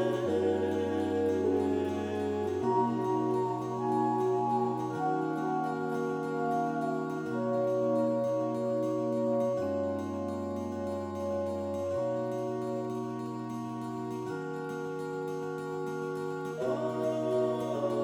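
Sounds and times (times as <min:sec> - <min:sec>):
slow sustained chords music: 0:00.0 - 0:18.0.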